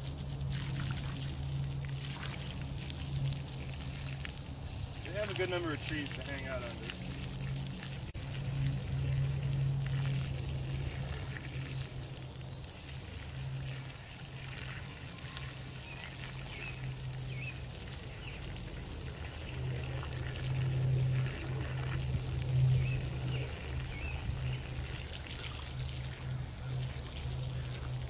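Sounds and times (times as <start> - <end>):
low hum: 0.0 - 28.0
water splashing onto mud: 0.0 - 28.0.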